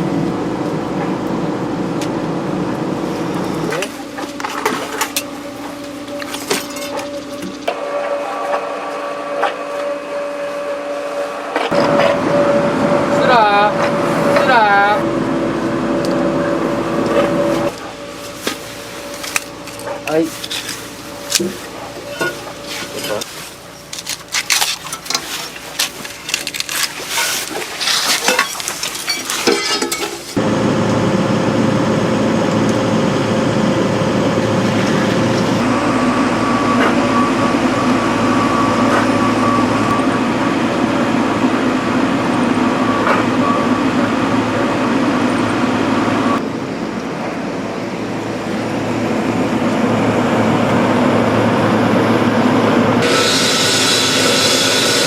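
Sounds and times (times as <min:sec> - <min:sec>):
heavy construction machinery running: 0:00.0 - 0:55.0.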